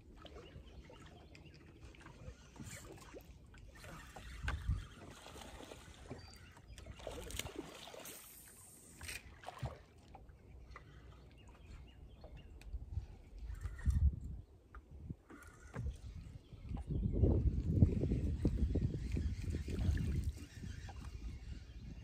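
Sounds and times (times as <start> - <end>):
water lapping against hull: 0.0 - 22.0.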